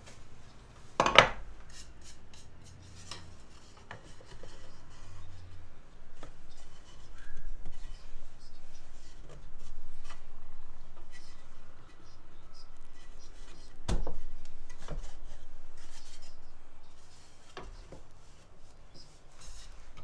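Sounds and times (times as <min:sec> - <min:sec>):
wood rubbing on wood: 0:00.9 - 0:20.0.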